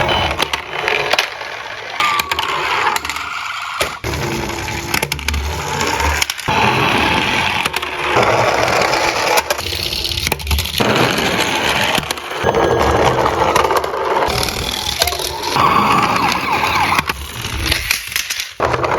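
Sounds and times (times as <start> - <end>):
toy cars rolling and clattering: 0.0 - 18.9.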